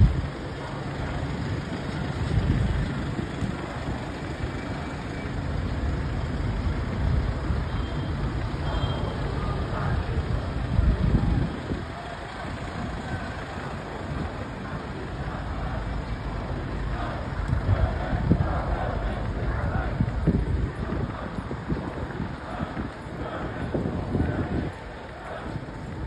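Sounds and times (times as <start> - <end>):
low street rumble: 0.0 - 26.0
vans driving past: 0.0 - 26.0.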